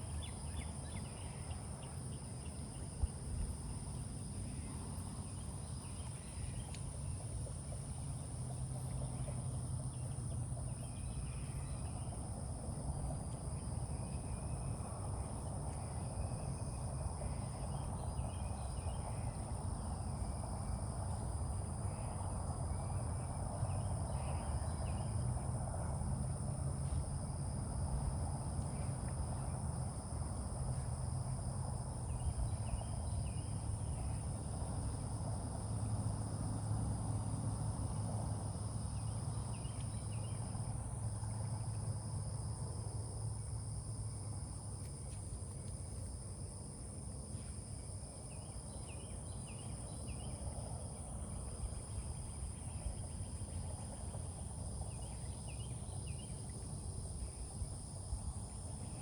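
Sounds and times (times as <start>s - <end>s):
insects chirring: 0.0s - 25.3s, 27.4s - 59.0s
low steady rumble: 0.0s - 59.0s.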